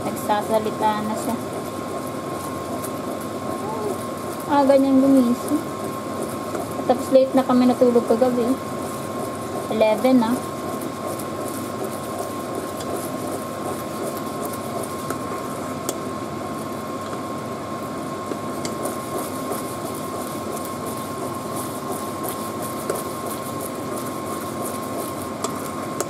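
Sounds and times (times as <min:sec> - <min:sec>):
steady high-toned hum: 0:00.0 - 0:26.0
syrup bubbling in pot: 0:00.0 - 0:26.0.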